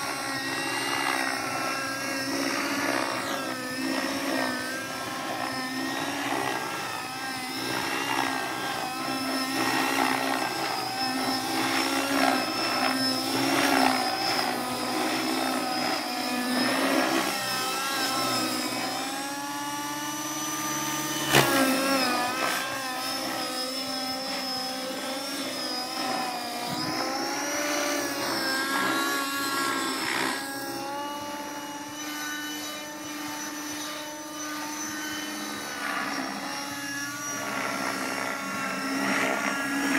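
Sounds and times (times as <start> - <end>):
radio-controlled helicopter whine: 0.0 - 39.9.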